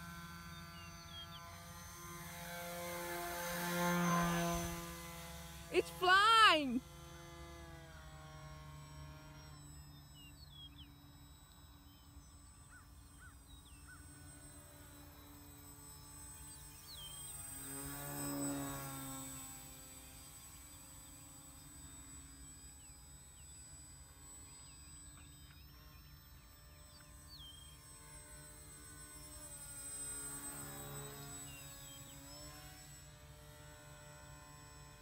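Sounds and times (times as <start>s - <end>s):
rc plane electric motor buzz: 0.0s - 35.0s.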